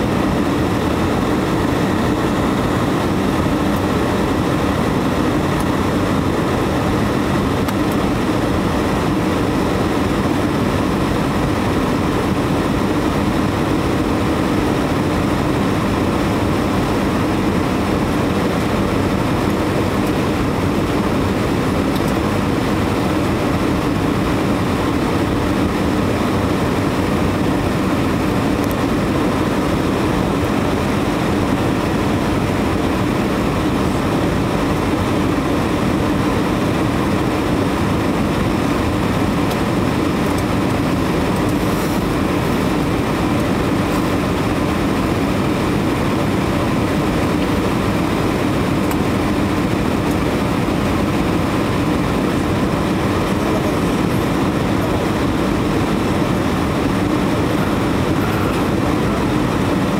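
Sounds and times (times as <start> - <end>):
airplane cabin engine and airflow noise: 0.0 - 59.9.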